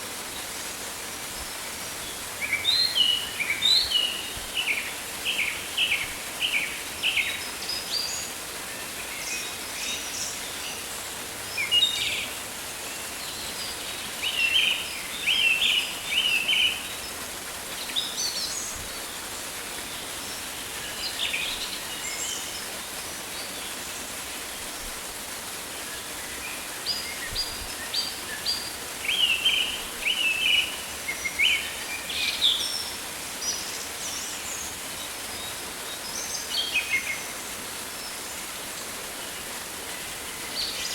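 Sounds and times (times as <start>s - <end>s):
steady hiss: 0.0s - 40.9s.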